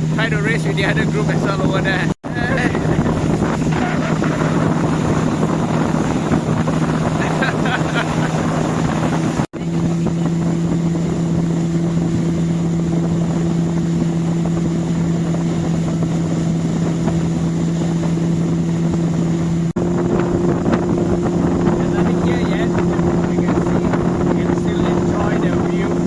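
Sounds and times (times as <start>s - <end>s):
boat rushing through water: 0.0s - 26.0s
motorboat engine humming: 0.0s - 26.0s
wind buffeting microphone: 0.0s - 26.0s.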